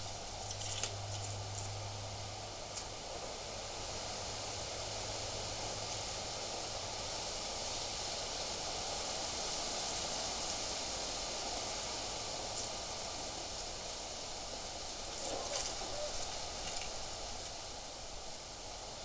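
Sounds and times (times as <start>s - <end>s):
wind through foliage: 0.0s - 19.0s.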